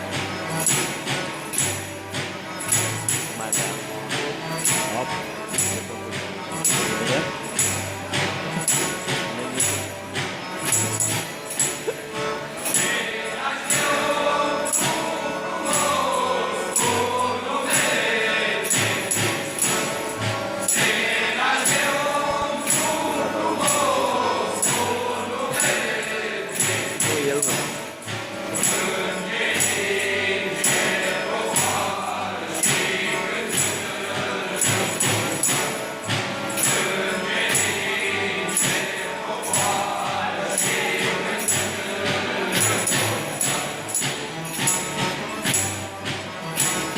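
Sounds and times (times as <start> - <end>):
carolers singing together: 0.0 - 46.9
jingling percussion: 0.0 - 46.9.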